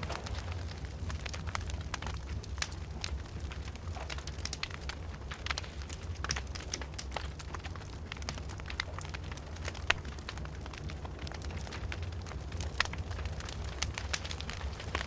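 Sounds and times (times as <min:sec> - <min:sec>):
fire popping and snapping: 0:00.0 - 0:15.0
low fire rumble: 0:00.0 - 0:15.0
wood fire crackling: 0:00.0 - 0:15.0.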